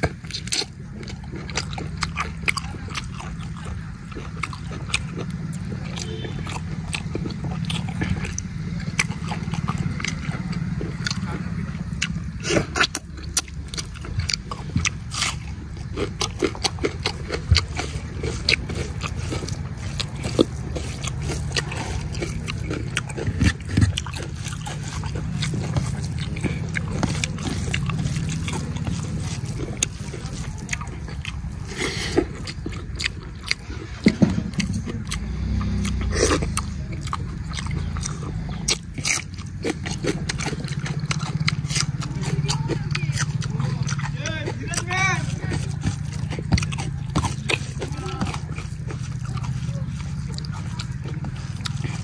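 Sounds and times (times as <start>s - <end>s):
man chewing wetly: 0.0s - 52.0s
steady low hum: 0.0s - 52.0s.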